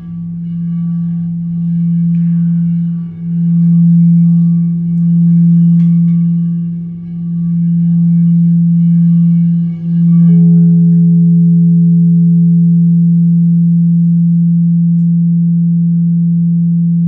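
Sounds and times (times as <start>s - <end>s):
low ringing tone: 0.0s - 17.0s.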